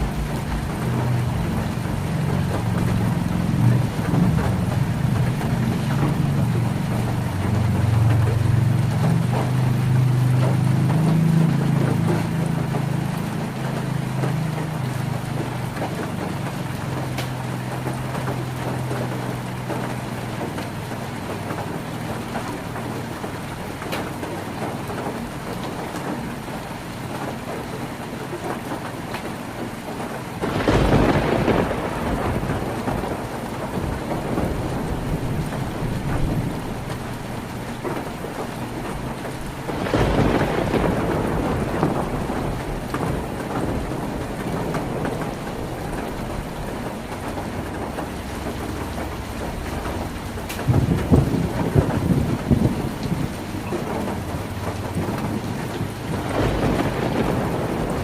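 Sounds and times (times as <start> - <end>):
heavy rain on a tin roof: 0.0 - 58.0
thunder rumble: 0.0 - 58.0.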